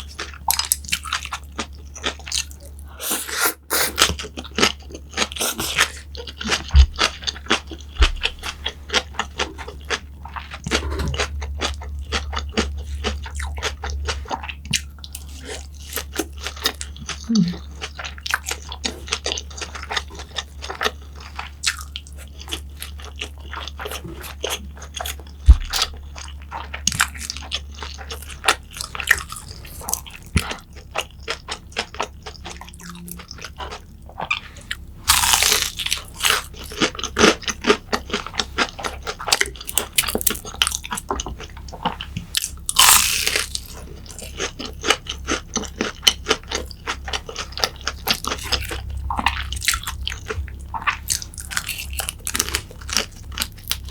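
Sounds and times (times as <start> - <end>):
chewing crunchy food: 0.0 - 53.9.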